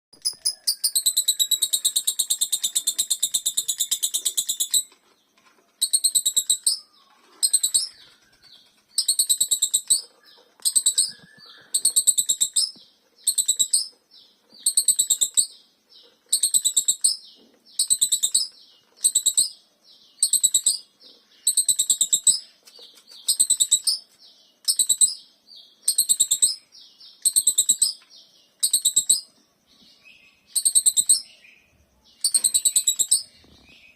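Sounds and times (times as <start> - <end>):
lovebird chattering trill: 0.1 - 5.0, 5.7 - 29.4, 30.0 - 33.9.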